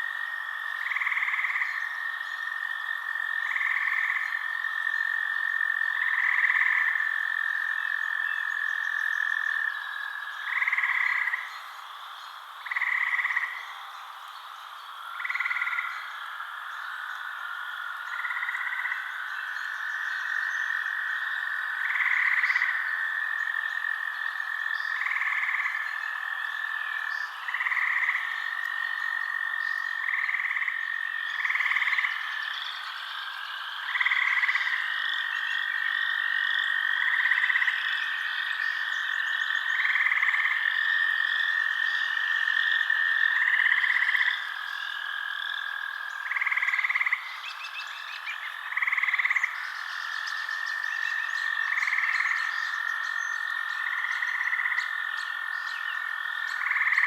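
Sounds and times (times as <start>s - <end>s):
frogs croaking: 0.0s - 57.0s
frogs trilling: 0.0s - 57.0s.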